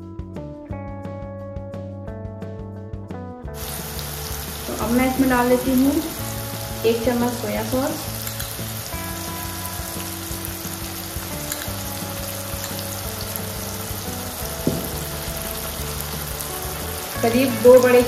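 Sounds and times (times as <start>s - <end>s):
masala sizzling in a pan: 3.5s - 18.0s.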